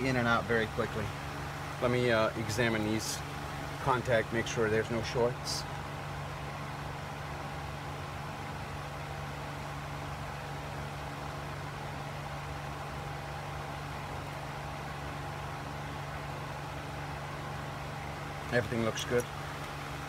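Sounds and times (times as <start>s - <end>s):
equipment humming: 0.0s - 20.0s.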